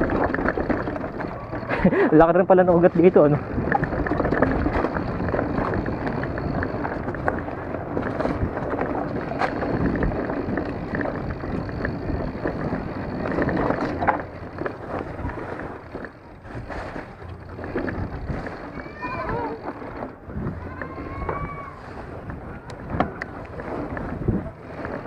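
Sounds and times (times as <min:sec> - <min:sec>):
bike clicks and clatters: 0:00.0 - 0:25.0
bike tyres rolling on dirt: 0:00.0 - 0:25.0
steady rushing noise: 0:00.0 - 0:25.0.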